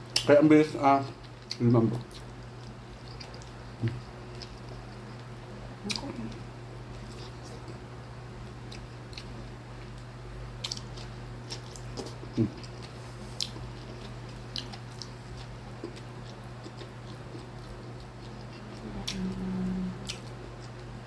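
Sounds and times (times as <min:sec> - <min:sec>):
person chewing: 0:01.2 - 0:21.0.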